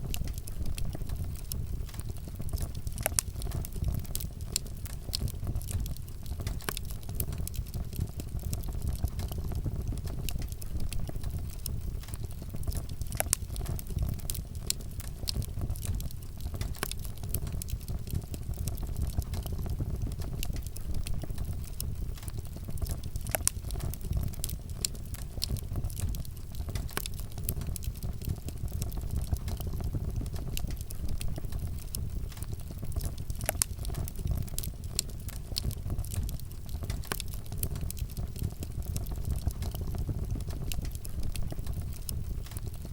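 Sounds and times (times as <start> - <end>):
burning wood crackling and popping: 0.0 - 42.9
fire rumbling: 0.0 - 42.9.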